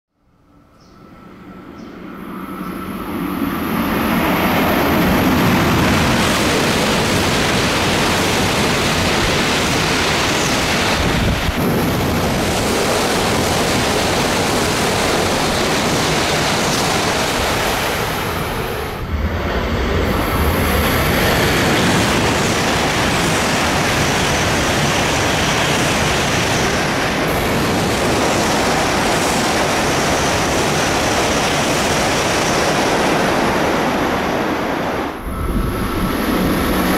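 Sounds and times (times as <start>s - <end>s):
high-speed trains passing: 0.1s - 36.9s.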